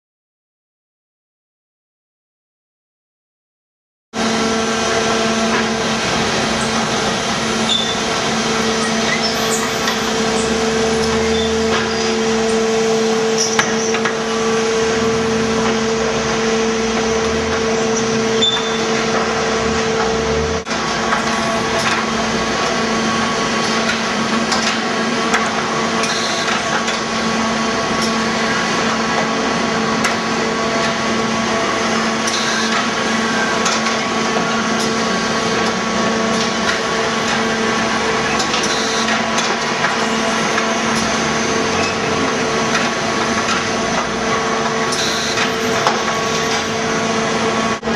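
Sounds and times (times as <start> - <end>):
electric motors and conveyors humming: 4.2 - 47.9.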